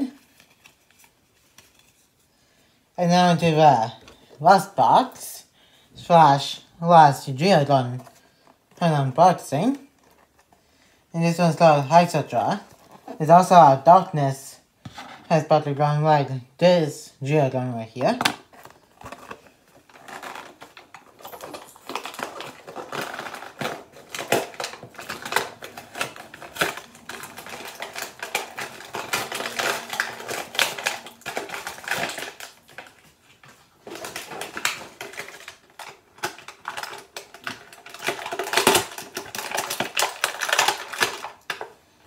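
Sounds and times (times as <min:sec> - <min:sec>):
packaging clicks crinkles and rustles: 0:00.0 - 0:05.2, 0:07.2 - 0:10.6, 0:11.5 - 0:13.6, 0:17.9 - 0:42.0.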